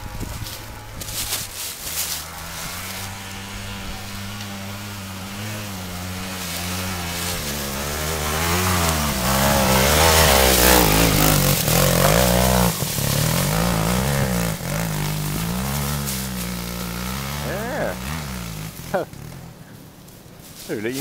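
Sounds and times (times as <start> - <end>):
motorcycle engine revving: 0.0 - 19.8.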